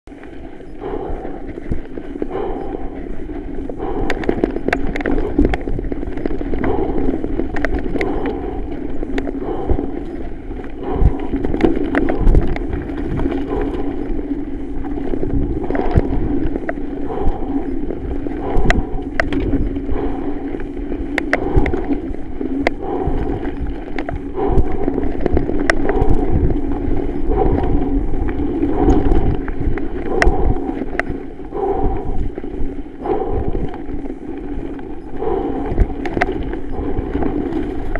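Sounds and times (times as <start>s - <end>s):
bike clacking over bumps: 0.1s - 37.9s
bike tyres rumbling on dirt: 0.1s - 37.9s.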